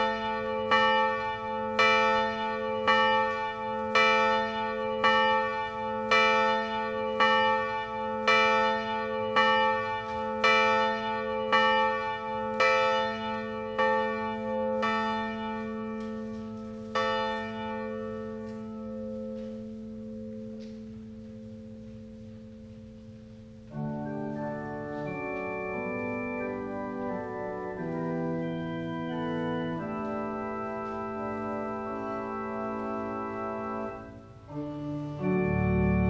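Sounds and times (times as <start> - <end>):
church bell tolling: 0.0 - 36.0
organ chords: 0.0 - 36.0.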